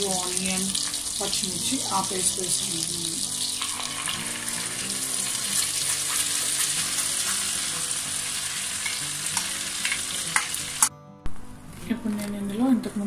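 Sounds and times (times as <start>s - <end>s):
paste sizzling in a pan: 0.0s - 10.9s.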